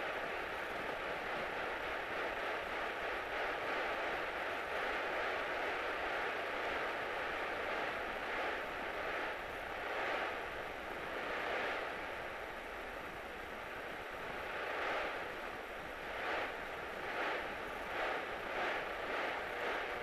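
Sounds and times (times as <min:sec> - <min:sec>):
faint constant tone: 0:00.0 - 0:20.0.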